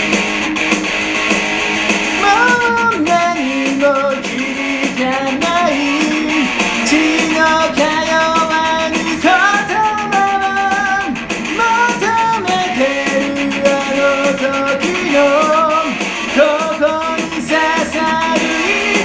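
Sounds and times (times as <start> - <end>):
song with guitar and singing: 0.0 - 19.0.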